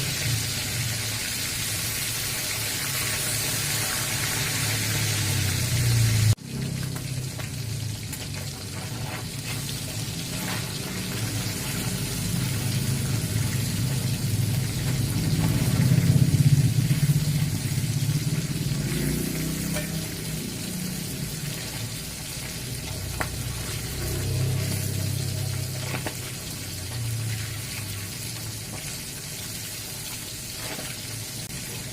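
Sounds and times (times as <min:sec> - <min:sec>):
stir-fry sizzling in a pan: 0:00.0 - 0:31.9.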